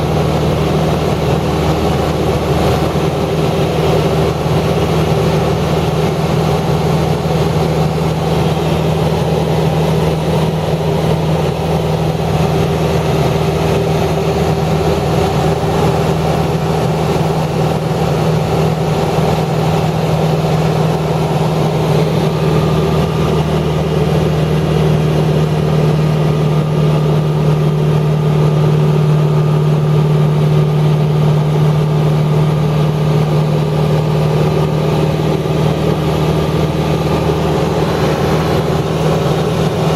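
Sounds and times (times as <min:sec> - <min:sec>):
engine-like hum with low drone: 0:00.0 - 0:39.9.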